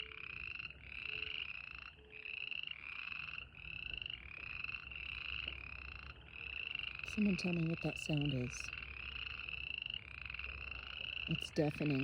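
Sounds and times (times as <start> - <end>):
frogs calling in pulsed trills: 0.0 - 12.0.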